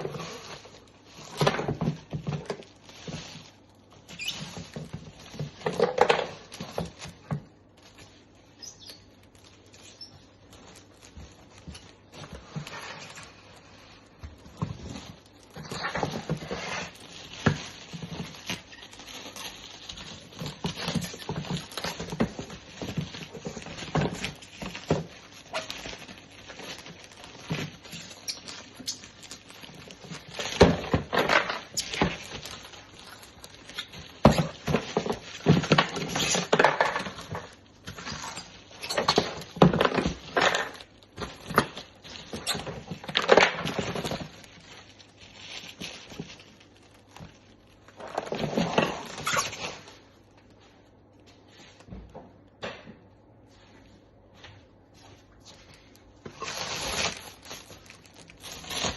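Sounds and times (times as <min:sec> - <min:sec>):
packaging rustling: 0:00.0 - 0:51.8, 0:55.1 - 0:58.9.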